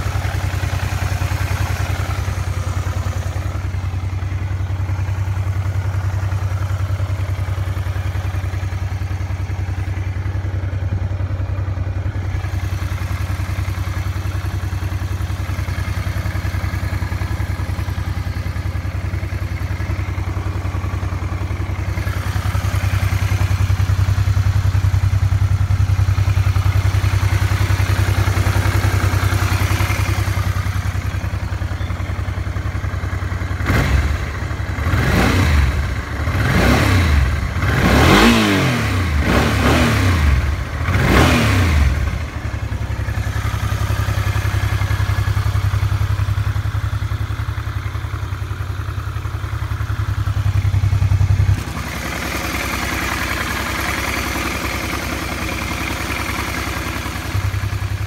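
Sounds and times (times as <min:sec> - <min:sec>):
motorcycle engine idling: 0:00.0 - 0:58.0
motorcycle engine revving: 0:00.0 - 0:58.0.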